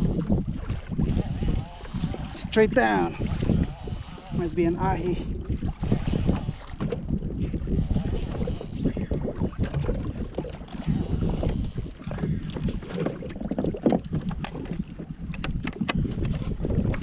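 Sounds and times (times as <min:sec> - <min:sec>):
water sloshing against kayak hull: 0:00.0 - 0:17.0
wind buffeting microphone: 0:00.0 - 0:17.0.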